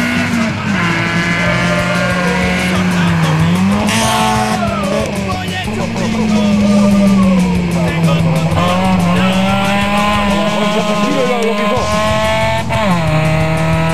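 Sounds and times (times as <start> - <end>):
background music: 0.0 - 13.9
rally car engine revving: 0.0 - 13.9.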